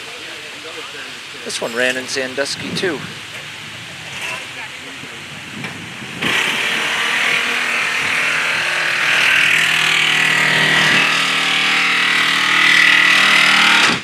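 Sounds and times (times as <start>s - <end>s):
power tool whining: 1.6s - 14.0s.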